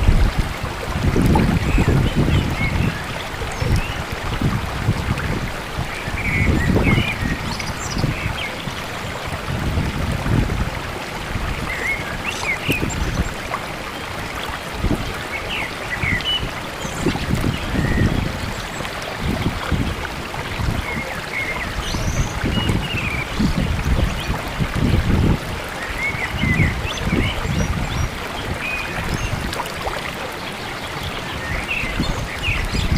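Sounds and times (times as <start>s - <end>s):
wind on microphone: 0.0s - 32.9s.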